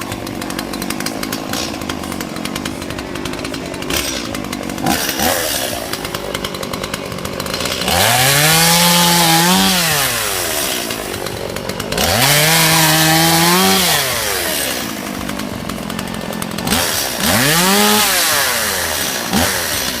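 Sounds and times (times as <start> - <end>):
chainsaw idling and revving: 0.0 - 20.0.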